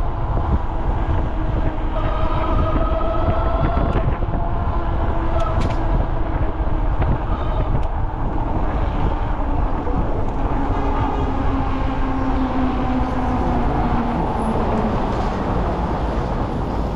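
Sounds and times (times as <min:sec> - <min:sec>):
city traffic rumble: 0:00.0 - 0:16.9
wind noise: 0:00.0 - 0:16.9.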